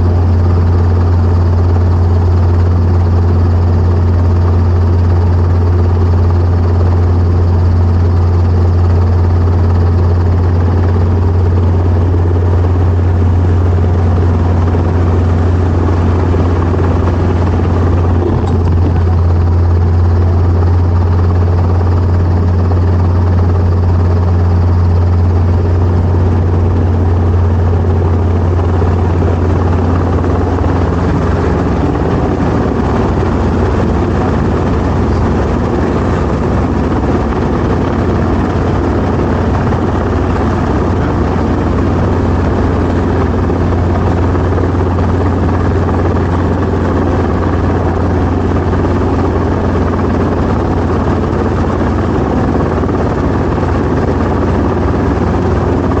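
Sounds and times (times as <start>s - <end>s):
helicopter rotor and engine running: 0.0s - 56.0s.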